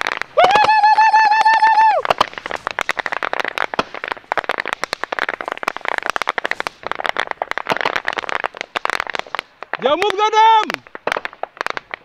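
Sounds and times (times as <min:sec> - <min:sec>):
dry grass crackling and rustling: 0:00.0 - 0:12.0.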